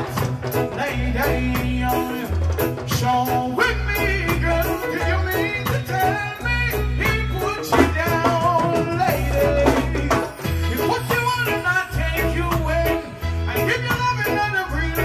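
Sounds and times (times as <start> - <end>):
man singing reggae into microphone: 0.0 - 15.0
reggae band backing: 0.0 - 15.0.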